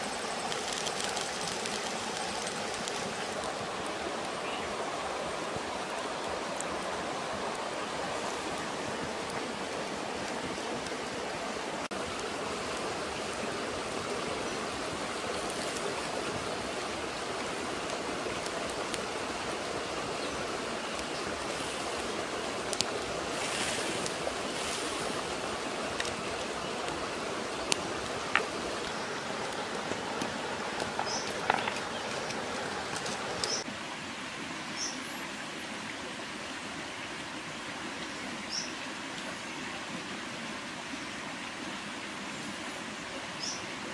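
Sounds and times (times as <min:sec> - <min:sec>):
rocky stream rushing: 0:00.0 - 0:43.9.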